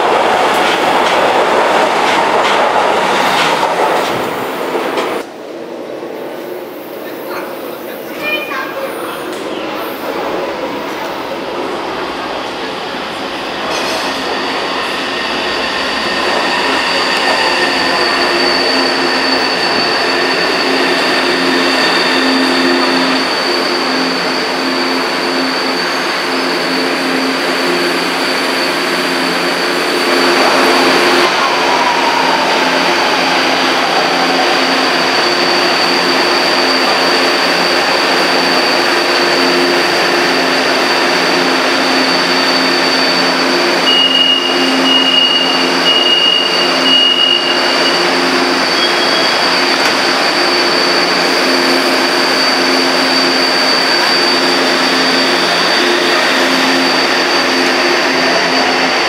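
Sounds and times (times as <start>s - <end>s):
electric train rumble: 0.0s - 59.0s
high-pitched whine: 9.3s - 59.0s.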